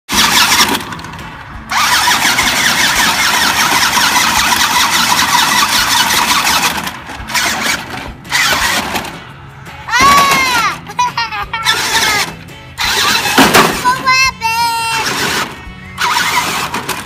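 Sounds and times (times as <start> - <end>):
toy truck motor whirring: 0.1 - 9.2, 11.6 - 14.0, 14.8 - 17.0.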